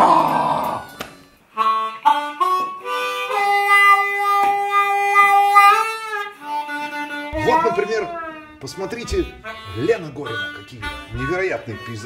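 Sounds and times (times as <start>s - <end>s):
harmonica melody: 0.8s - 12.0s.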